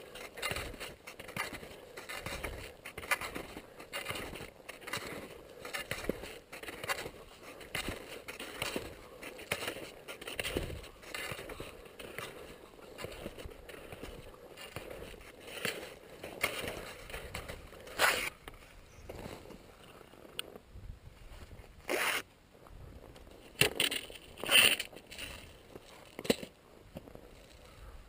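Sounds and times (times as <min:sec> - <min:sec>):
ski poles planting: 0:00.0 - 0:20.6, 0:21.2 - 0:27.9
skis crunching over snow: 0:00.0 - 0:20.6, 0:21.2 - 0:27.9.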